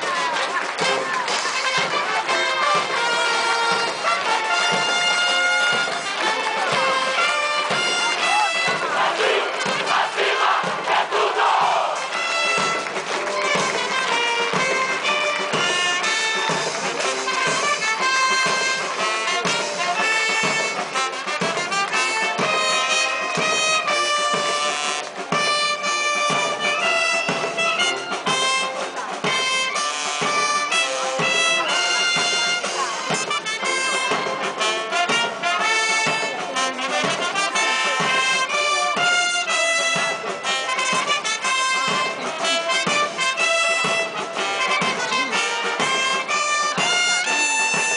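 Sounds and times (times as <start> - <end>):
brass band playing: 0.0 - 47.9.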